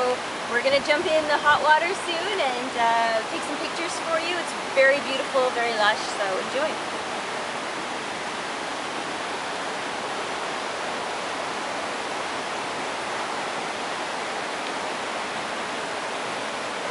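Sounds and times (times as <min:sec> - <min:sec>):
rushing flowing water: 0:00.0 - 0:16.9.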